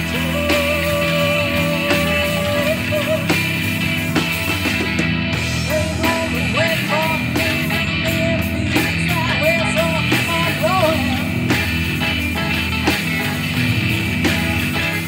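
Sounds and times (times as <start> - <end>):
bass guitar: 0.0 - 15.0
drum kit: 0.0 - 15.0
electric guitars: 0.0 - 15.0
keyboards: 0.0 - 15.0.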